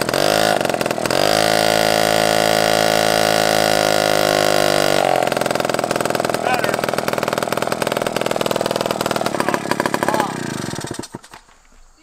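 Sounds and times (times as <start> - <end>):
moped engine idling unevenly: 0.0 - 11.2
moped engine revving: 0.0 - 11.4.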